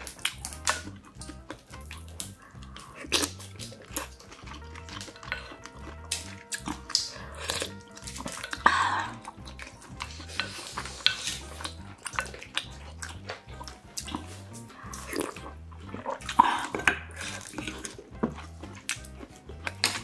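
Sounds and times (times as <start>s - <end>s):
background music with steady beat: 0.0s - 20.0s
chewing: 0.0s - 20.0s.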